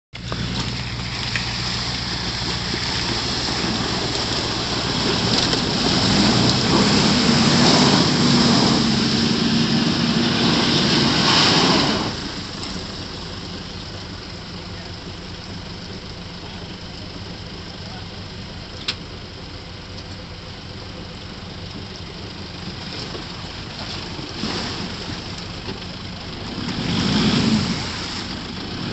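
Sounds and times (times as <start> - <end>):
engine working under load: 0.2 - 28.9
tyres splashing through mud: 0.2 - 28.9.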